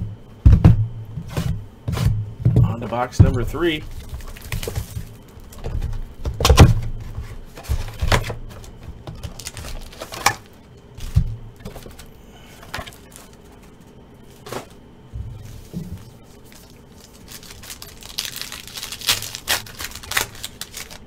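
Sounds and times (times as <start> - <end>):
cardboard box and foil packs rustling: 2.9 - 14.8, 15.4 - 21.0.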